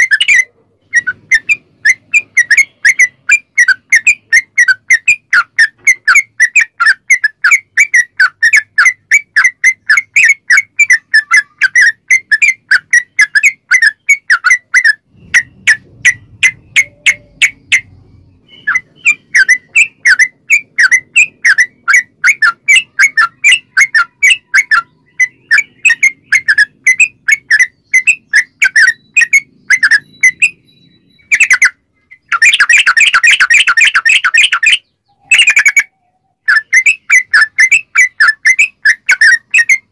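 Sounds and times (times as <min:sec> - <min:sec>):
bird sharp chirping notes: 0:00.0 - 0:39.9.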